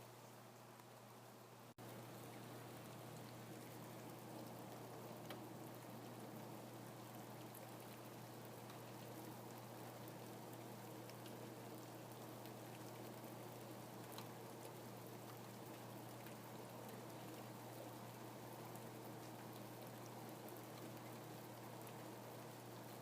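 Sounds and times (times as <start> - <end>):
faint steady rain hiss: 0.0 - 23.0.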